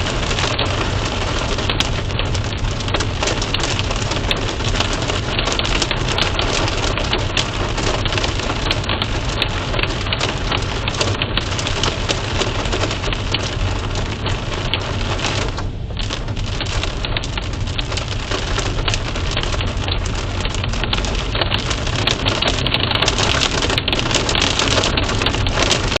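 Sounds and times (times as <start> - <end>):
heavy rain pattering: 0.0 - 26.0.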